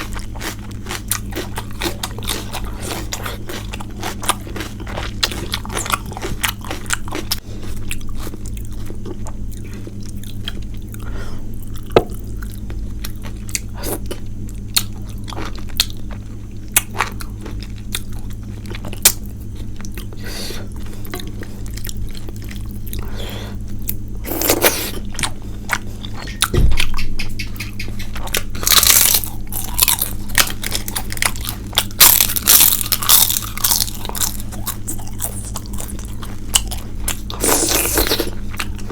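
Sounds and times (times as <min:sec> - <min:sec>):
chewing and crunching: 0:00.0 - 0:38.9
low hum: 0:00.0 - 0:38.9.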